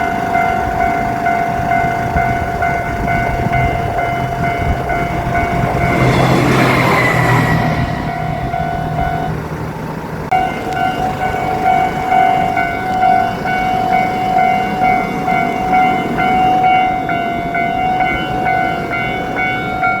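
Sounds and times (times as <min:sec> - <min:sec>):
level-crossing warning bell: 0:00.0 - 0:20.0
train engine and wheel noise: 0:00.0 - 0:20.0.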